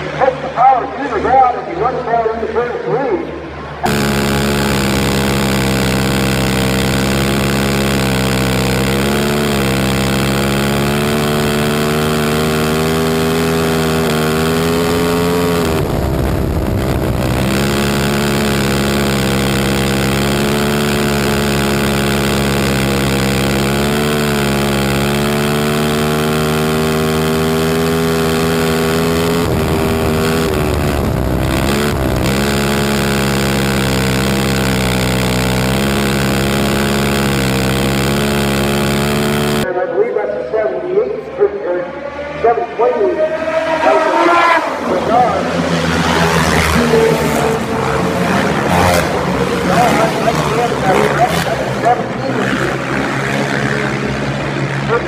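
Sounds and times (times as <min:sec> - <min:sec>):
quad engine revving high: 0:00.0 - 0:02.5, 0:03.3 - 0:39.8, 0:41.7 - 0:55.0.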